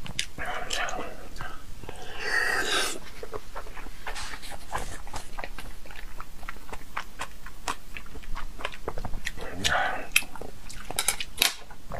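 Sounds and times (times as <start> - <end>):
wet chewing mouth clicks: 0.0 - 11.8.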